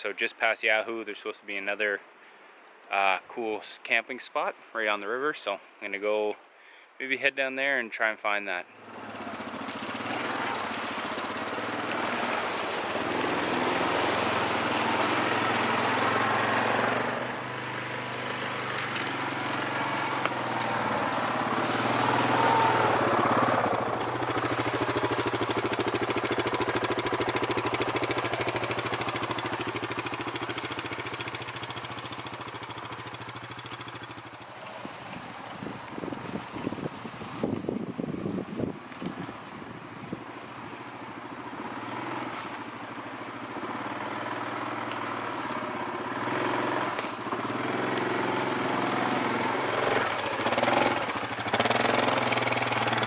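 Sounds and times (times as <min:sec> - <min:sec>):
off-road vehicle engine running: 0:08.7 - 0:53.0.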